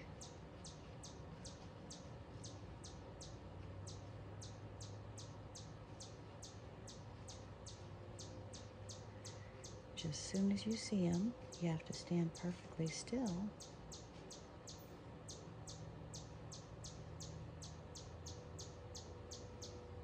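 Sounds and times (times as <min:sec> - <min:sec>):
faint low hum: 0:00.0 - 0:20.0
small bird chirping: 0:00.0 - 0:20.0.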